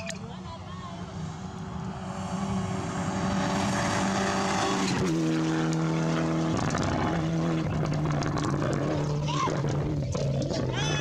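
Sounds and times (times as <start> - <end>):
rally car engine passing by: 0.9 - 11.0.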